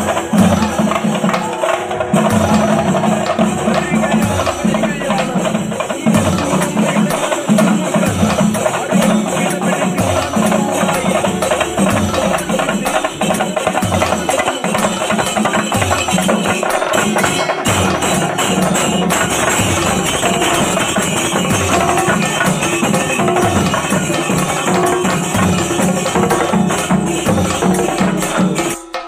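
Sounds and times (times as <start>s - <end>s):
percussion-heavy music: 0.0s - 29.0s.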